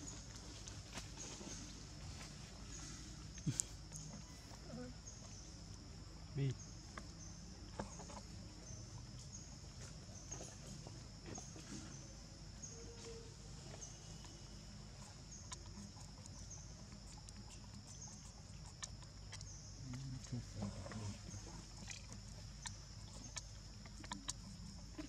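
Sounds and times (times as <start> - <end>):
short insect chirp: 0.0 - 25.0.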